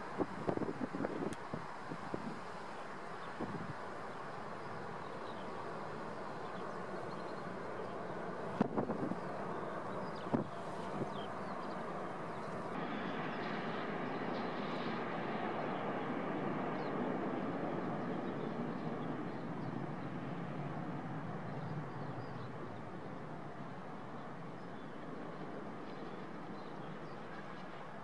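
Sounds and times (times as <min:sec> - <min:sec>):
jet airliner engines rushing: 0:00.0 - 0:28.0.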